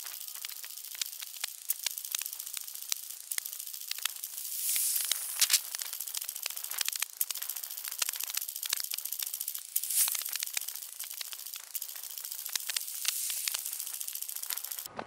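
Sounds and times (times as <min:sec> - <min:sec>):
rushing hiss: 0:00.0 - 0:07.0, 0:07.9 - 0:14.9.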